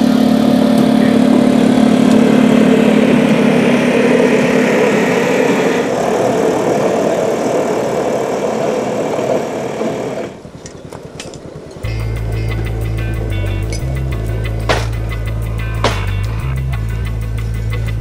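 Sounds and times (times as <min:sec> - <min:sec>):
rail trolley engine running: 0:00.0 - 0:18.0.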